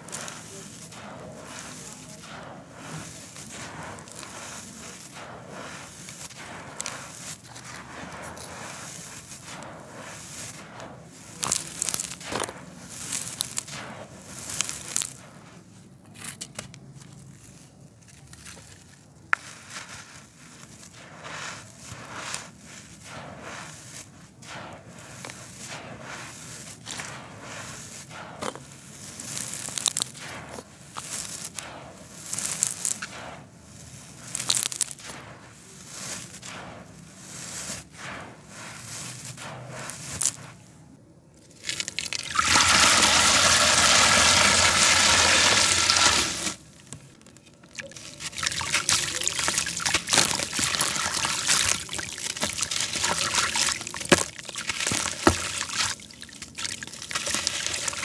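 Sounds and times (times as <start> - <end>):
powder crunching between hands: 0.0 - 58.0.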